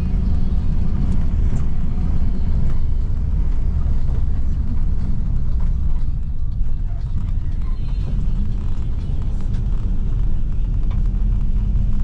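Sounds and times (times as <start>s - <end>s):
vehicle interior rumble: 0.0s - 12.0s.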